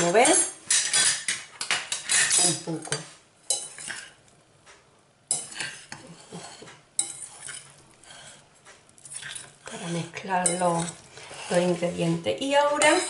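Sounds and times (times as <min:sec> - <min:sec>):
utensil scraping a salad bowl: 0:00.7 - 0:04.2, 0:05.3 - 0:13.0.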